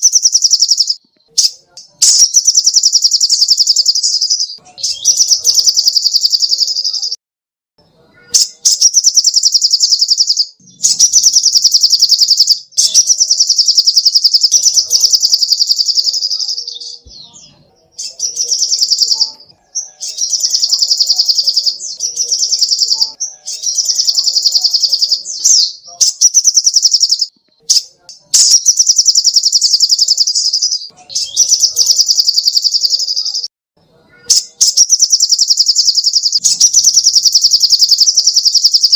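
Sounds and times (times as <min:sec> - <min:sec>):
bird singing rapid trills: 0:00.0 - 0:07.2, 0:08.3 - 0:33.5, 0:34.1 - 0:38.9.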